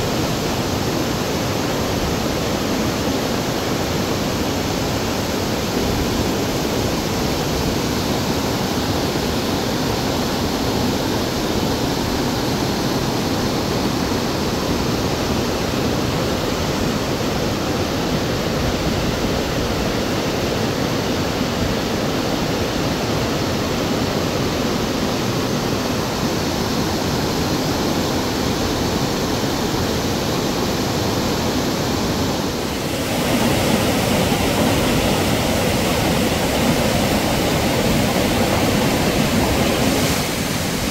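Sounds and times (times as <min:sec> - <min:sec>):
flood water rushing over rocks: 0:00.0 - 0:40.9.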